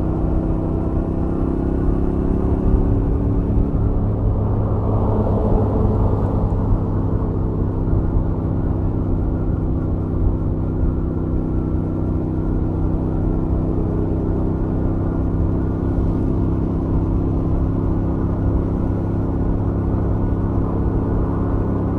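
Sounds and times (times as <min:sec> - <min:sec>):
motorcycle engine cruising: 0:00.0 - 0:21.9.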